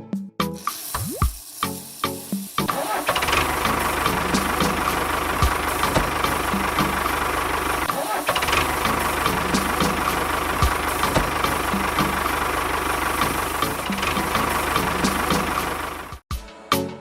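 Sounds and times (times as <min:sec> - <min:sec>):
small motor running: 0:00.6 - 0:16.2.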